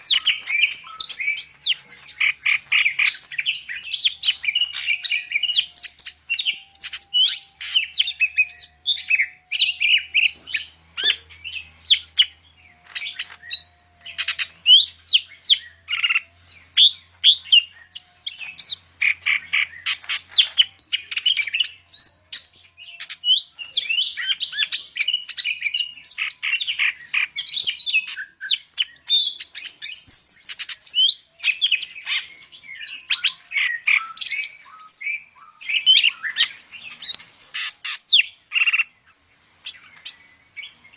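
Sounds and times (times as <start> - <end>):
bird singing varied chirps: 0.0 - 40.9.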